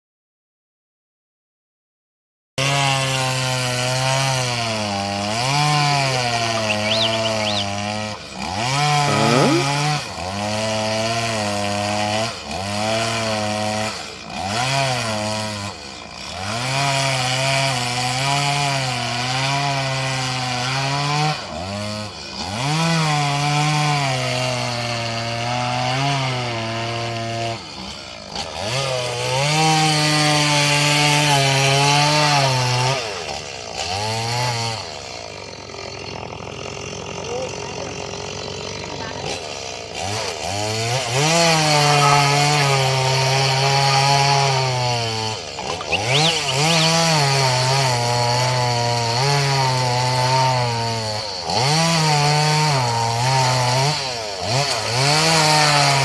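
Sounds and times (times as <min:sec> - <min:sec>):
chainsaw cutting: 0:02.6 - 0:56.0.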